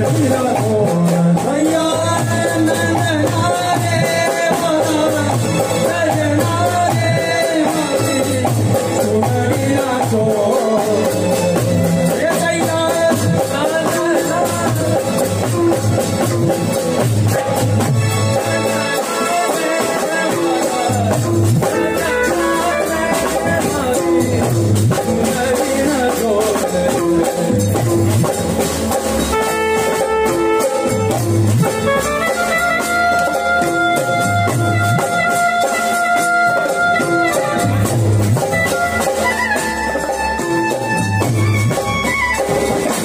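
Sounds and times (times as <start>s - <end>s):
drums dance beat: 0.0s - 43.0s
keyboard melody: 1.4s - 43.0s.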